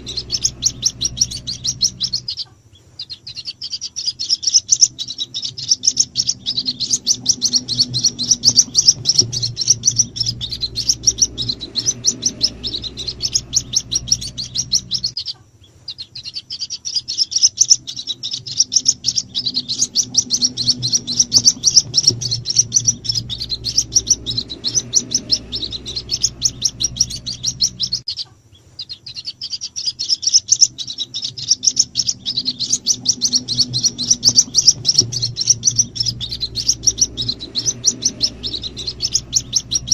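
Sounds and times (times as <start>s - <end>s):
low hum: 0.0s - 16.3s, 17.0s - 28.7s, 30.4s - 39.9s
bird chicks peeping: 0.0s - 39.9s.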